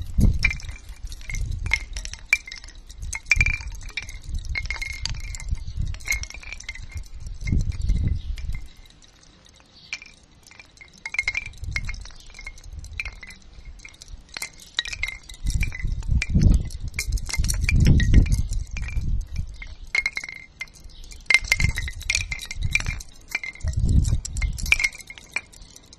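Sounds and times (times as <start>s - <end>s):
wind rumbling on microphone: 0.0s - 9.1s, 10.0s - 25.9s
bamboo wind chime clacking: 0.0s - 25.9s.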